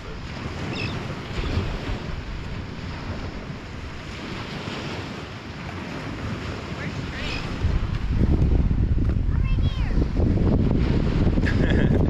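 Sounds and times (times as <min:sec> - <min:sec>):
sea water washing: 0:00.0 - 0:12.0
wind buffeting microphone: 0:00.0 - 0:12.0.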